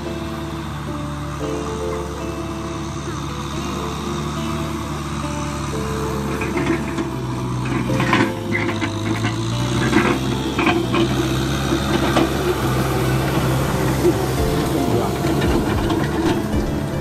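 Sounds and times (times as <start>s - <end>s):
rotary tiller rattling: 0.0s - 17.0s
tractor diesel engine running: 0.0s - 17.0s.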